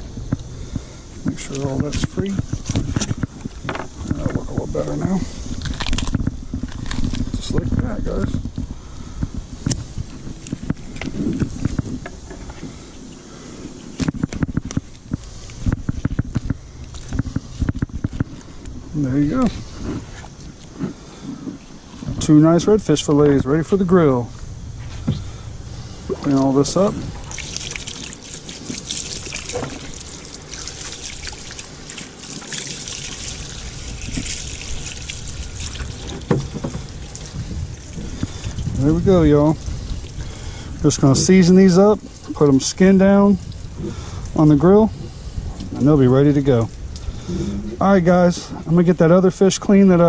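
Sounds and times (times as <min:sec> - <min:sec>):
hose water spraying and trickling: 0:00.0 - 0:50.0.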